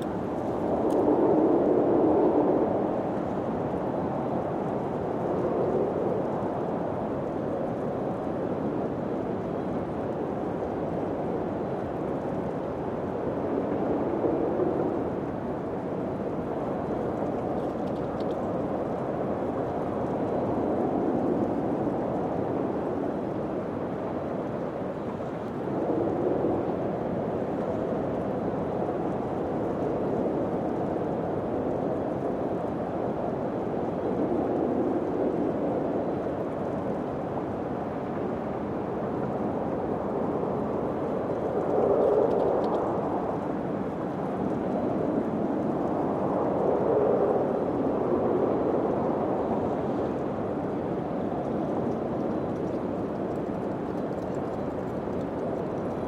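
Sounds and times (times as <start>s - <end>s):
wind blowing in gusts: 0.0s - 56.0s.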